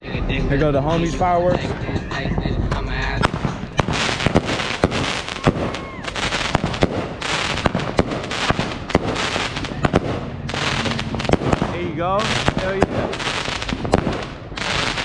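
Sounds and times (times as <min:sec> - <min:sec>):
fireworks bursting with bangs and crackles: 0:01.5 - 0:15.0.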